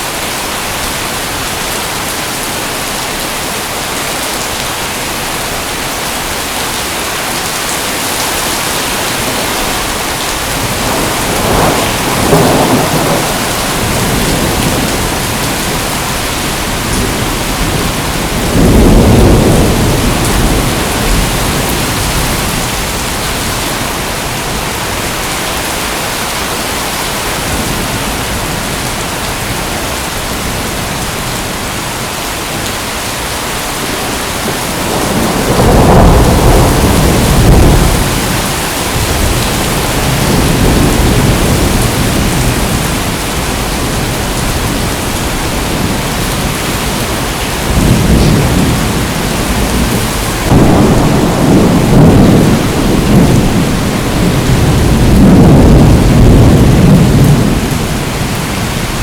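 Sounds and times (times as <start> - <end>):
heavy rain hissing: 0.0 - 59.0
thunder rumbling: 7.6 - 31.2, 33.0 - 59.0.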